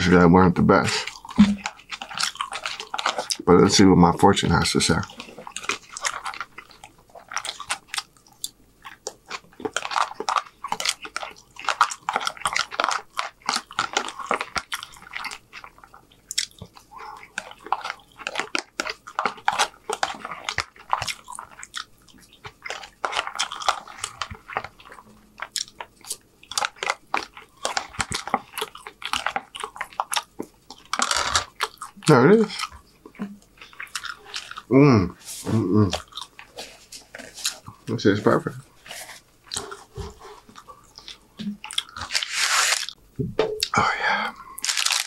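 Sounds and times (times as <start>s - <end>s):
chewing and mouth sounds: 0.8s - 43.0s, 43.6s - 45.0s.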